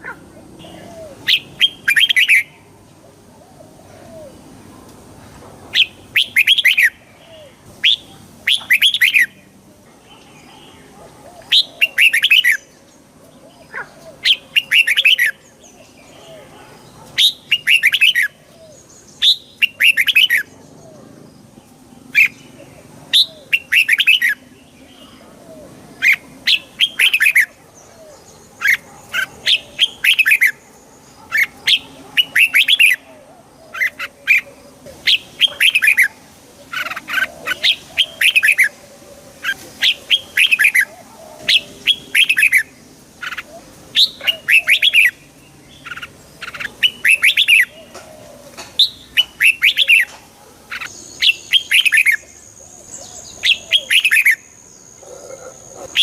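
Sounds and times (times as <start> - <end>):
bulbul singing: 0.0 - 2.8, 5.7 - 56.0.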